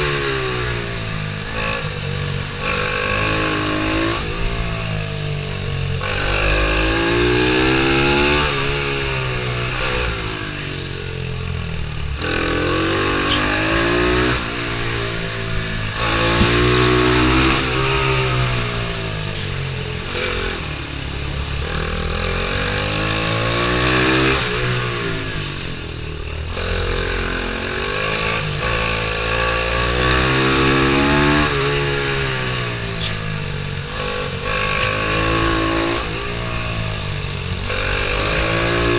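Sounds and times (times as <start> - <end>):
pitbike engine revving: 0.0 - 38.9.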